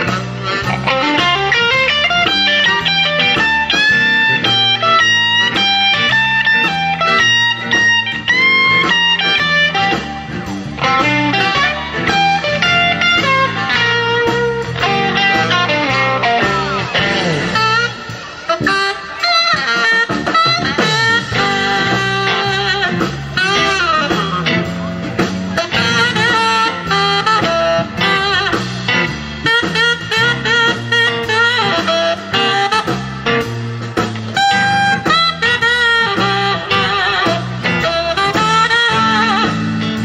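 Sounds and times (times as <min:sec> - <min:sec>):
band playing instrumental blues: 0:00.0 - 0:40.0.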